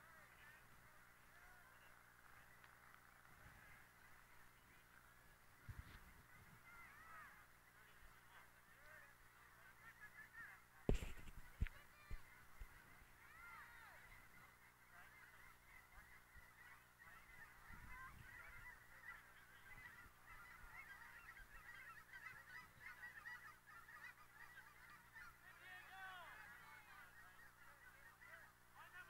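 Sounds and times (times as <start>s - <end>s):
flock of birds calling: 0.0s - 29.0s.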